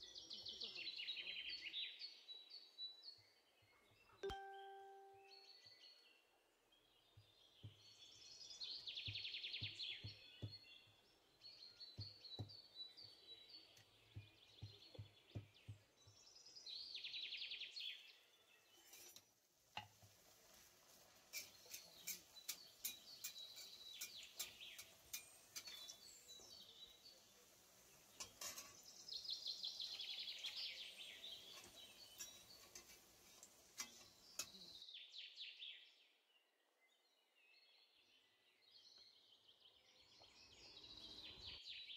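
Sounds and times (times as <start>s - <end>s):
songbirds chirping and trilling: 0.0s - 4.2s, 5.2s - 19.4s, 21.2s - 41.9s.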